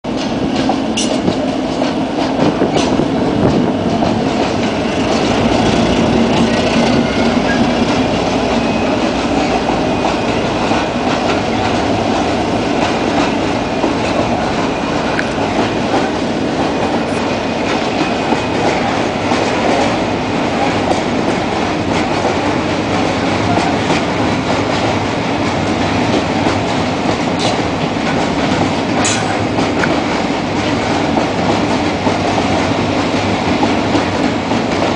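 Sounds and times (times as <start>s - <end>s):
freight train rolling past: 0.0s - 34.9s
wheels clacking over rail joints: 0.1s - 34.9s.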